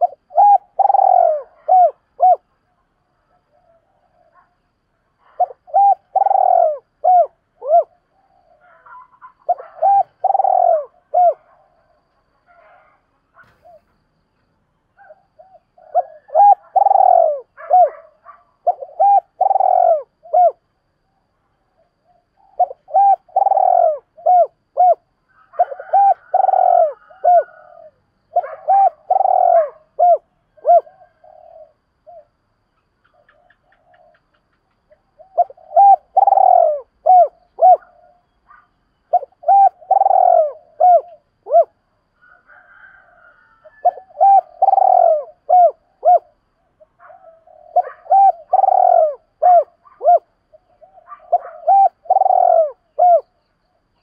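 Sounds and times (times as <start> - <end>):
dove cooing: 0.0 - 2.6, 5.2 - 13.9, 15.0 - 20.6, 22.1 - 32.4, 33.1 - 53.4.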